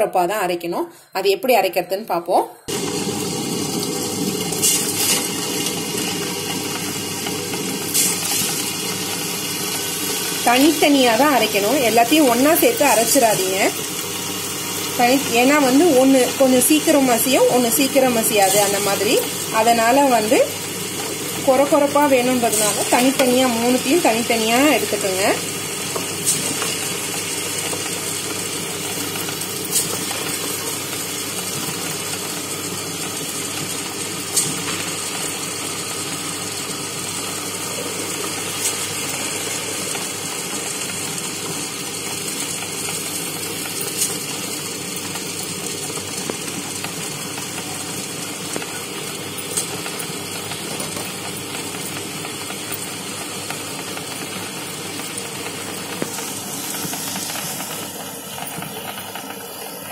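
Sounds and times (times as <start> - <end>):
stone wet grinder running: 2.7 - 59.9.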